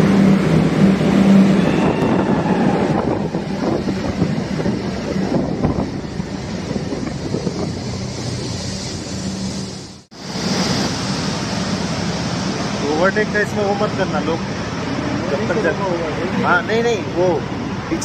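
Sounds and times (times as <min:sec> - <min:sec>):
wind rushing over microphone: 0:00.0 - 0:15.4
scooter engine humming: 0:00.0 - 0:16.6.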